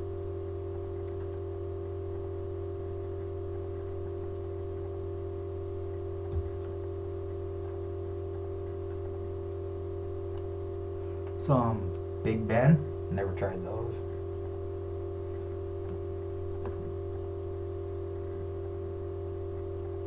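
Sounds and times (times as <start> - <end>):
steady hum of held tones: 0.0 - 20.0.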